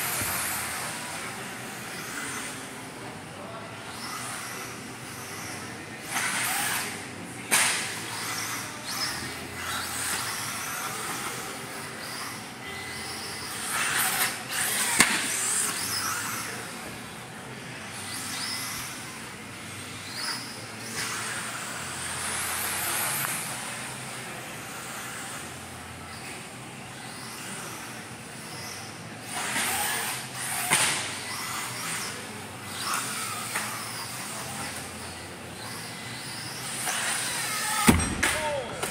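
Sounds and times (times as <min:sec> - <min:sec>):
toy car motor whine: 0:00.0 - 0:02.9, 0:03.8 - 0:17.2, 0:17.8 - 0:37.9.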